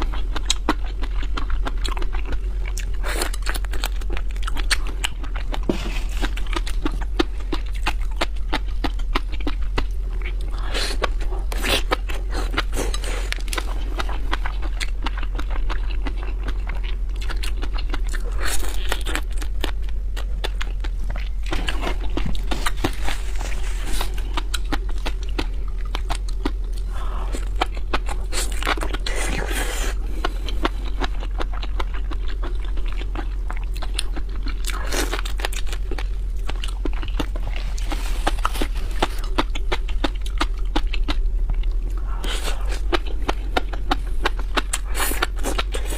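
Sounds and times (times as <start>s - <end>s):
chewing and crunching seafood: 0.0s - 45.9s
steady low hum: 0.0s - 45.9s.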